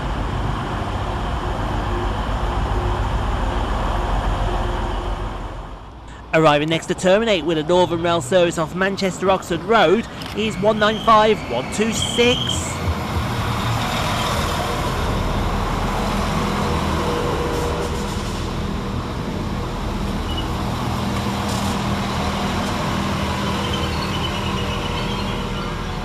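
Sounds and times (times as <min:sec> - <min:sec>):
diesel train engine droning: 0:00.0 - 0:26.0.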